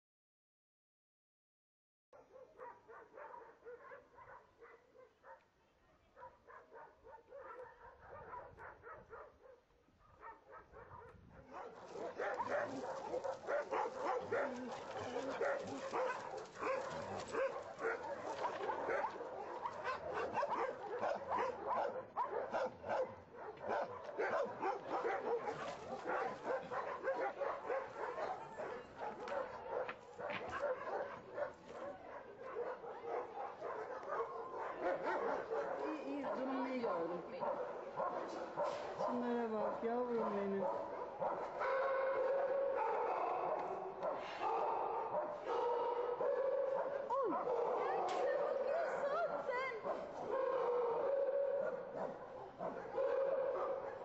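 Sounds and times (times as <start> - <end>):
many dogs barking: 2.2 - 54.0.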